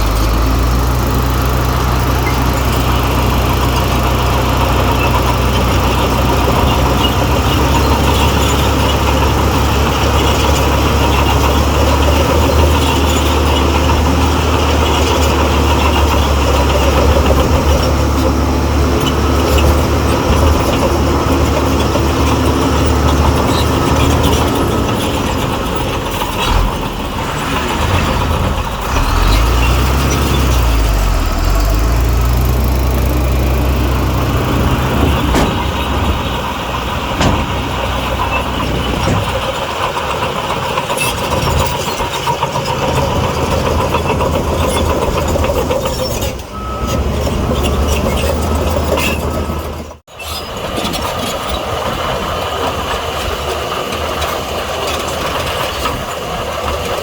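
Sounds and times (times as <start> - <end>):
heavy diesel machinery engine revving: 0.0 - 57.0.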